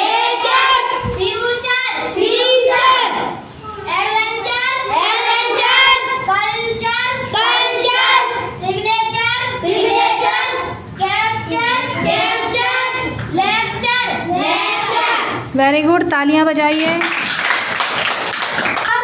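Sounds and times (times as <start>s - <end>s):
children chanting in unison: 0.0s - 15.5s.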